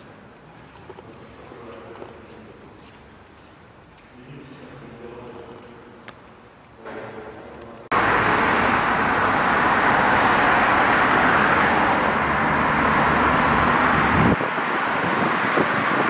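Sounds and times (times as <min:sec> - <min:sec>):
road traffic: 0:00.0 - 0:04.1, 0:05.0 - 0:16.0.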